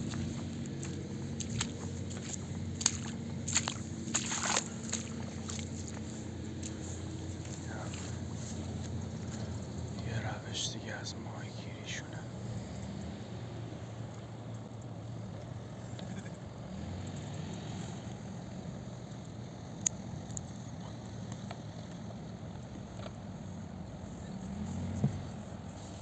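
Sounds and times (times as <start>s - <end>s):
low motor rumble: 0.0s - 26.0s.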